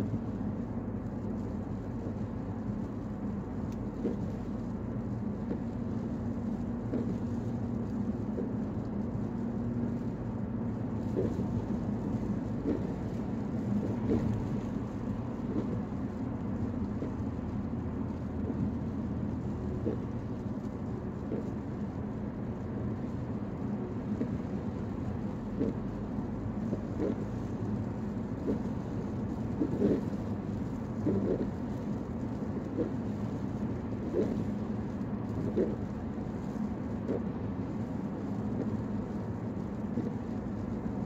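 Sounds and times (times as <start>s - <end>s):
car road noise rumble: 0.0s - 41.0s
faint irregular ticks: 0.0s - 41.0s.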